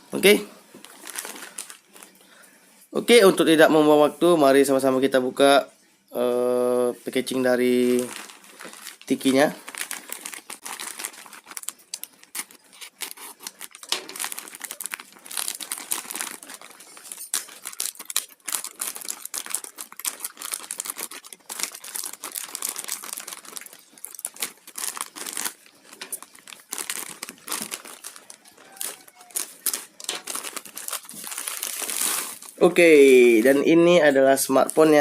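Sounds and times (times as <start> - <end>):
packaging crinkling and tearing: 0.8 - 2.2, 7.8 - 35.0.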